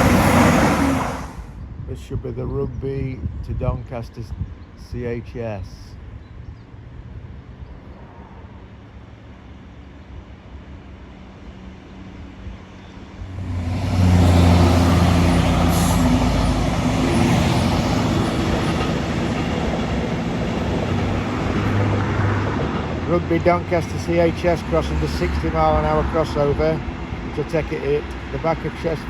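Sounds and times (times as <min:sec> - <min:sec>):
wheels rumbling on rails: 0:00.0 - 0:02.0, 0:06.0 - 0:29.0
train engine hum: 0:00.0 - 0:02.1, 0:04.0 - 0:29.0.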